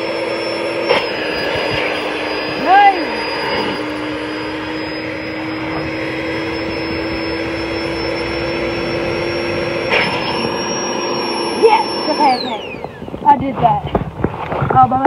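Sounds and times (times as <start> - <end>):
electric air pump whining: 0.0 - 14.4.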